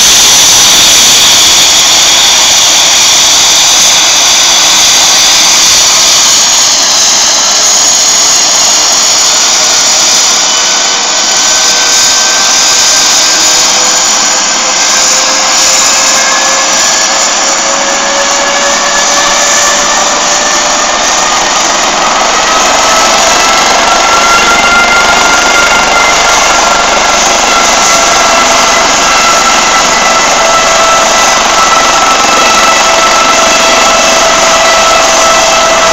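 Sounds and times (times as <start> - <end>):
helicopter turbine engine whine: 0.0 - 35.9.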